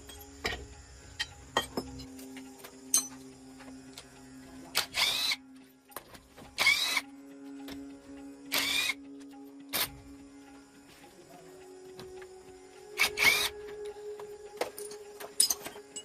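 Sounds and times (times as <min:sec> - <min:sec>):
quiet background music: 0:00.0 - 0:16.0.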